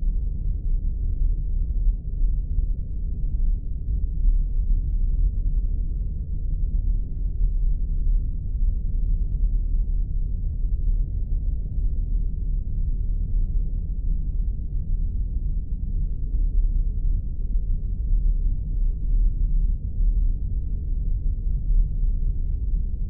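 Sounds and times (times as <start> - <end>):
deep rumbling drone: 0.0 - 23.0.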